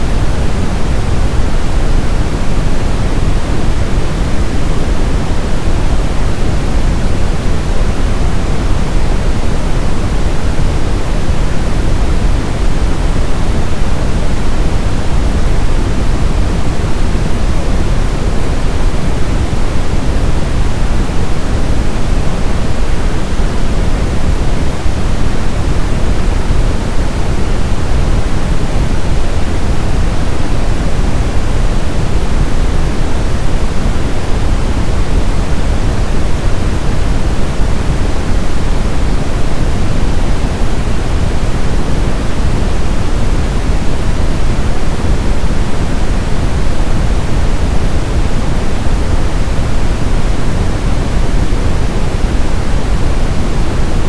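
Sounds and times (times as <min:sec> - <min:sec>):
brown noise: 0:00.0 - 0:54.0.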